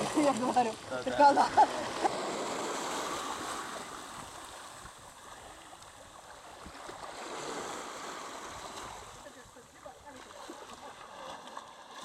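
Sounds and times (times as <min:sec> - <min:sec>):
waves washing: 0:00.0 - 0:12.0.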